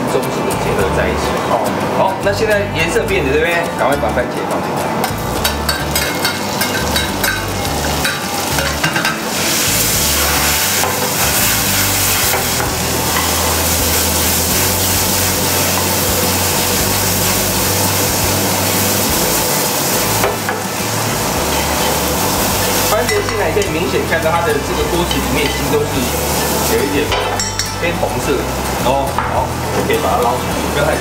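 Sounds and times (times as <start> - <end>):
food sizzling in oil: 5.0 - 31.0.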